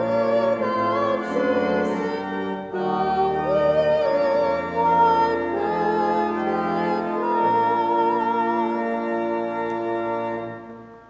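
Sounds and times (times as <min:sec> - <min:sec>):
voices singing a hymn: 0:00.0 - 0:10.8
pipe organ: 0:00.0 - 0:11.0.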